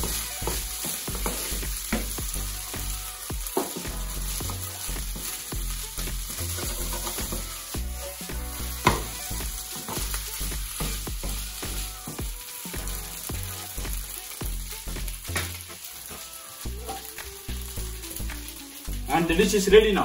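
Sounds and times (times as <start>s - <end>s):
wooden spatula scraping a pan: 0.0s - 17.7s
background music: 0.0s - 20.0s
food sizzling in a frying pan: 0.0s - 20.0s.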